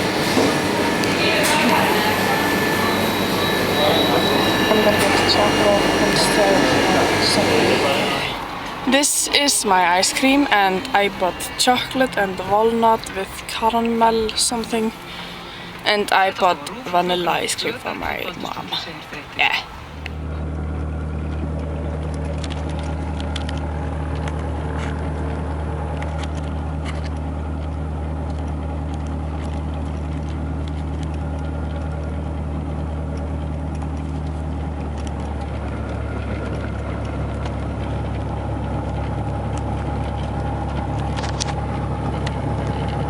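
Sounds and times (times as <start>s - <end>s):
road and cabin hum: 0.0s - 43.0s
vehicle engine drone: 0.0s - 43.0s.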